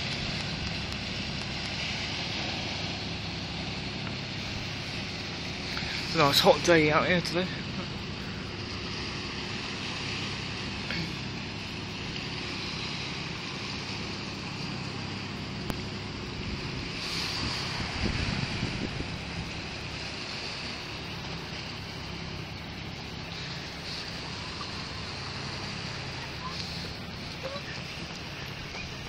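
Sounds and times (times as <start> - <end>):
boat engines humming: 0.0 - 29.0
small waves on shingle: 0.0 - 29.0
wind: 0.0 - 29.0
wind buffeting microphone: 0.0 - 29.0.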